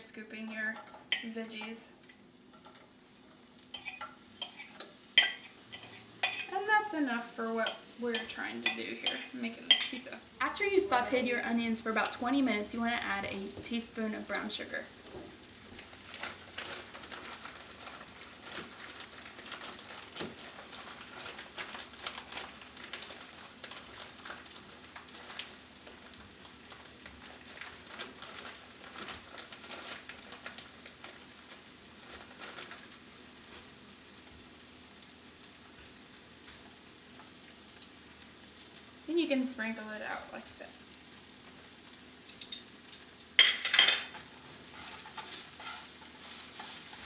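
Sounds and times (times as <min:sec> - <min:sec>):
onion sizzling in frying pan: 0:00.0 - 0:47.0.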